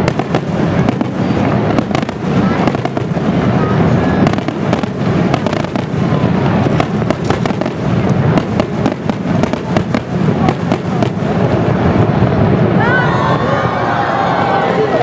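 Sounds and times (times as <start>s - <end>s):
fireworks crackles and bangs: 0.0s - 12.9s
fireworks barrage rumbling: 0.0s - 15.0s.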